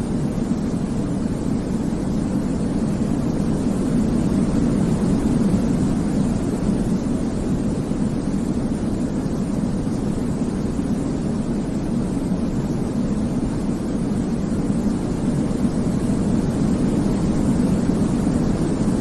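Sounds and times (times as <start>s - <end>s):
deep white noise hiss: 0.0s - 19.0s.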